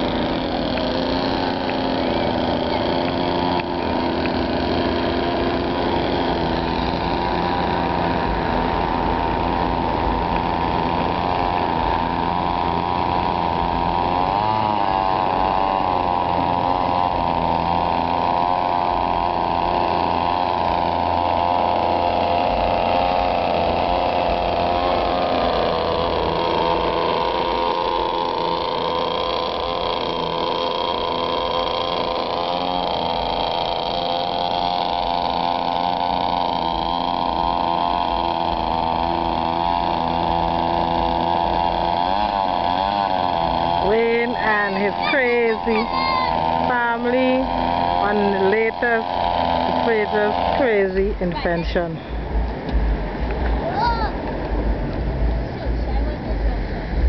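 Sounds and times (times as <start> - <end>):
outboard motor idling: 0.0 - 57.0.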